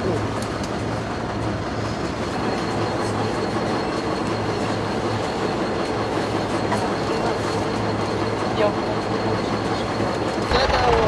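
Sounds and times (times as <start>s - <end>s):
road-side noise: 0.0s - 11.0s
vehicle engine rumbling: 0.0s - 11.0s.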